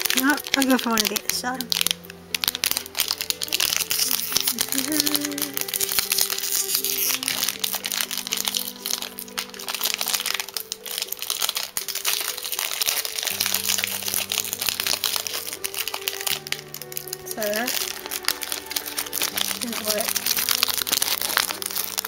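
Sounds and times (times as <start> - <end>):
plastic wrapper crinkling: 0.0 - 22.0.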